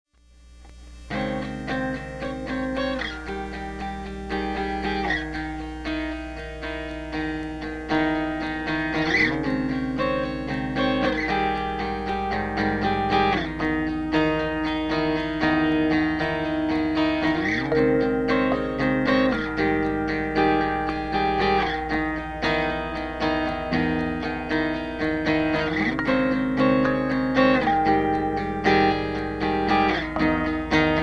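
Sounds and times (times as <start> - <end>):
instrumental guitar music: 0.2 - 31.0.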